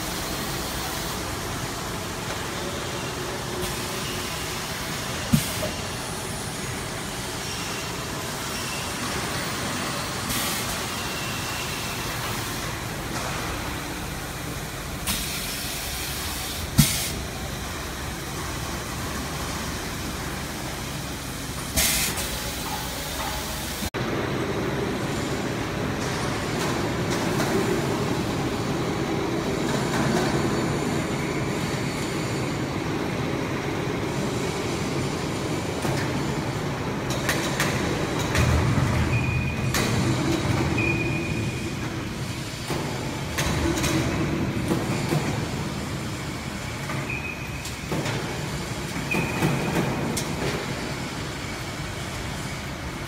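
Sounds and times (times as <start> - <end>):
machining center running: 0.0 - 53.0.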